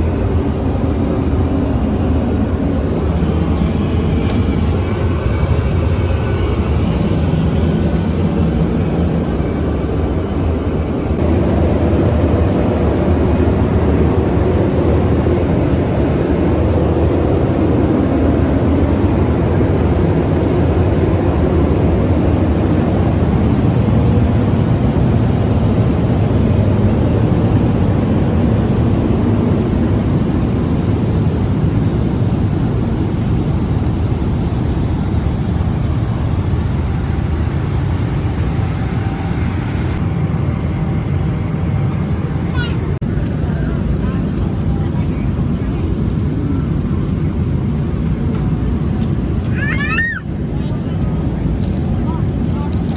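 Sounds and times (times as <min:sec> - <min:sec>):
airliner engines and airflow roar: 0:00.0 - 0:52.9.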